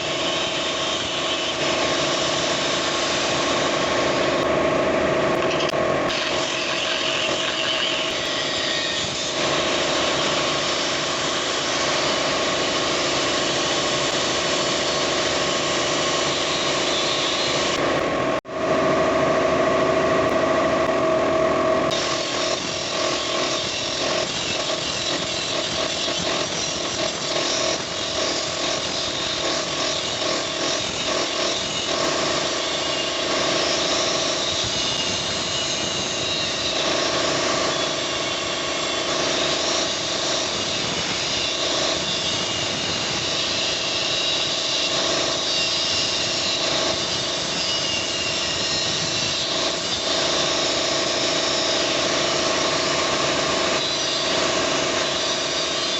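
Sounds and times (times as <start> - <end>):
power tool motor whine: 0.0 - 55.9
metal grinding: 5.3 - 17.8, 21.9 - 55.9.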